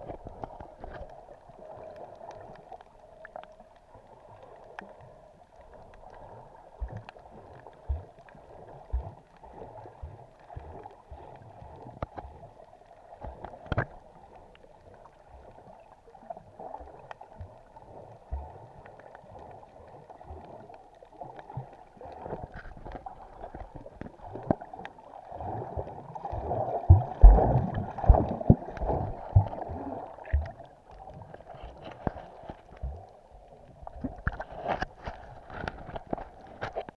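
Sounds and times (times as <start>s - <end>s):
underwater water sloshing and gurgling: 0.0s - 36.9s.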